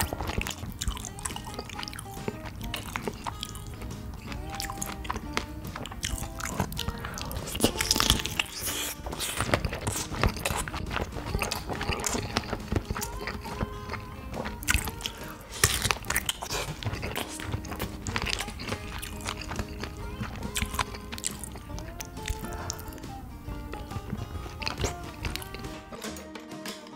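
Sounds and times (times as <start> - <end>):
wet mouth clicks: 0.0 - 25.9
biting and chewing food: 0.0 - 26.2
background music: 0.0 - 26.9.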